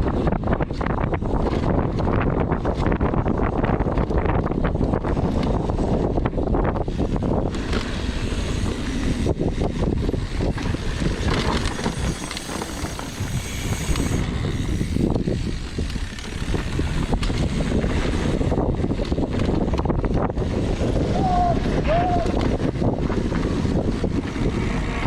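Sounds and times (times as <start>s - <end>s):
mountain bike rattling on rough trail: 0.0s - 25.0s
wind buffeting microphone: 0.0s - 25.0s.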